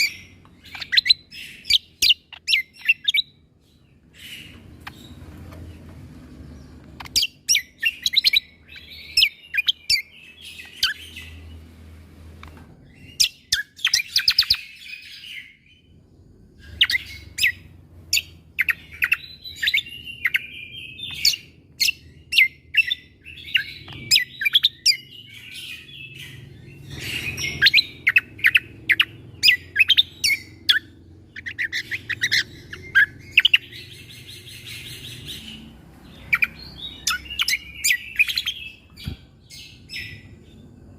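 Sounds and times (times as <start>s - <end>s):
songbird chirping and trilling: 0.0s - 40.9s.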